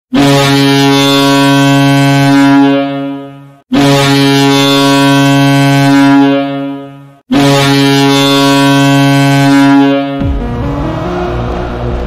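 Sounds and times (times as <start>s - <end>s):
deep air horn blasts: 0.1s - 12.0s.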